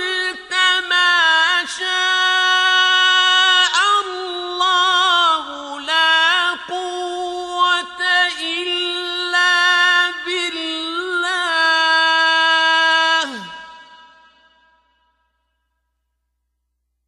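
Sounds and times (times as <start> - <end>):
man reciting melismatic chant: 0.0 - 14.6.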